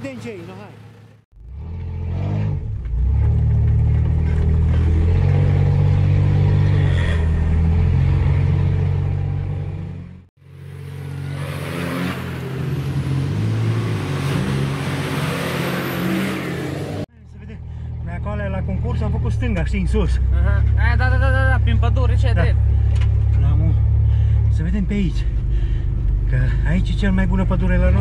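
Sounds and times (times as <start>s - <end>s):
vehicle engine pulling at low revs: 0.0s - 28.0s.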